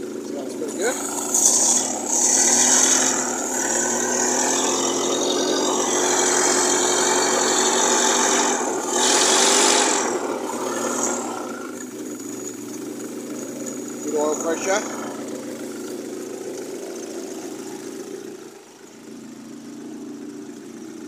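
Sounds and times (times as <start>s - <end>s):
forklift petrol engine running: 0.0s - 21.0s.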